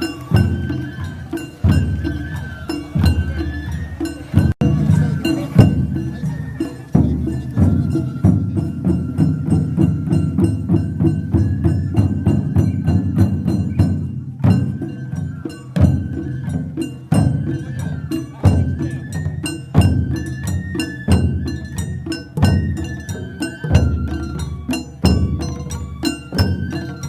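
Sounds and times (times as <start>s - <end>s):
high bamboo flute melody: 0.0s - 27.0s
rapid drum and percussion strikes: 0.0s - 27.0s.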